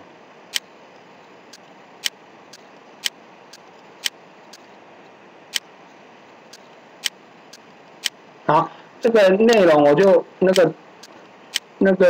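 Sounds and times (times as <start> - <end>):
quiet steady hiss: 0.0 - 12.0.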